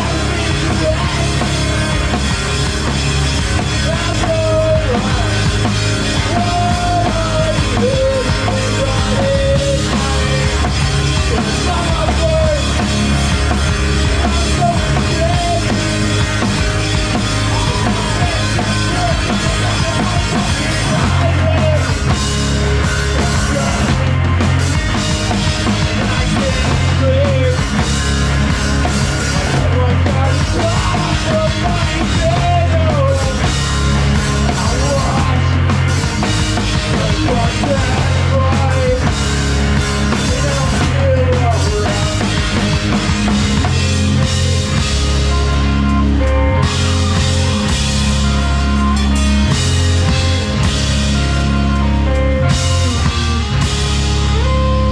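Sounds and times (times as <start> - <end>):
drum kit with crashing cymbals: 0.0 - 45.9, 46.6 - 51.6
bass guitar: 0.0 - 54.9
distorted electric guitars: 0.0 - 54.9.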